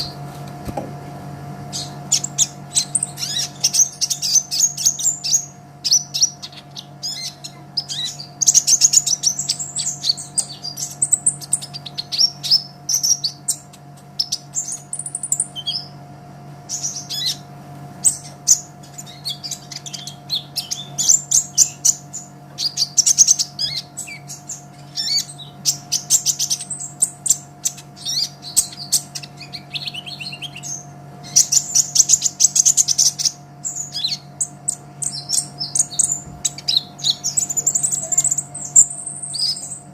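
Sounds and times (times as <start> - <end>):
bird twittering song: 0.0 - 0.3, 1.6 - 16.0, 16.6 - 39.9.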